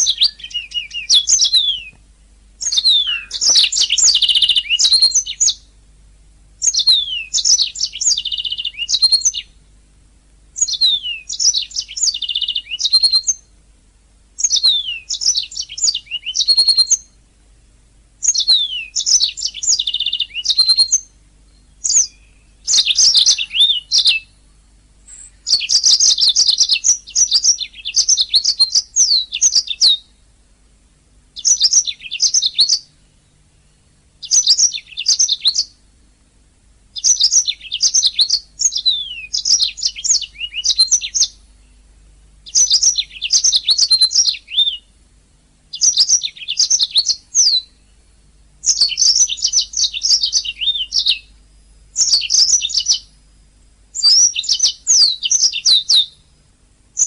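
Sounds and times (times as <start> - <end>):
canary singing: 0.0 - 2.0, 2.6 - 5.8, 6.6 - 9.6, 10.6 - 13.6, 14.4 - 17.2, 18.2 - 30.2, 31.3 - 35.8, 37.0 - 45.0, 45.7 - 53.3, 53.9 - 56.4.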